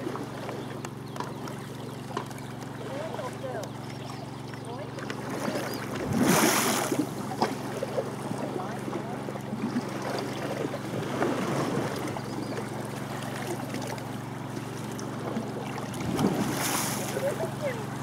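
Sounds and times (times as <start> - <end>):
motorboat engine humming: 0.0 - 18.0
water: 0.0 - 18.0.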